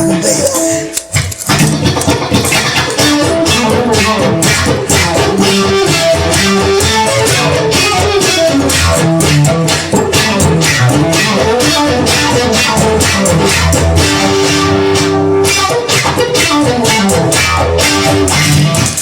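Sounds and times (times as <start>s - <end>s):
bass guitar: 0.0s - 19.0s
guitar: 0.0s - 19.0s
steady beat: 0.0s - 19.0s.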